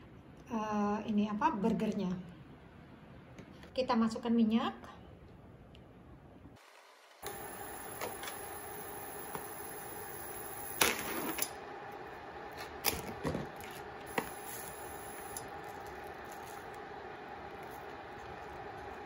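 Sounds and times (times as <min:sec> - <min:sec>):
electric cooktop hum: 0:00.0 - 0:19.0.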